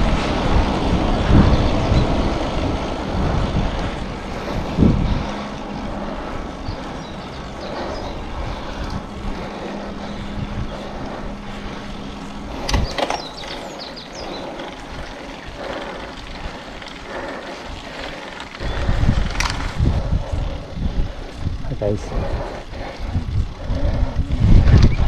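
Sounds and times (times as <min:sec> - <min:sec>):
steady hum: 0:00.0 - 0:24.7
wind and road noise: 0:00.0 - 0:25.0
wind buffeting microphone: 0:00.0 - 0:25.0.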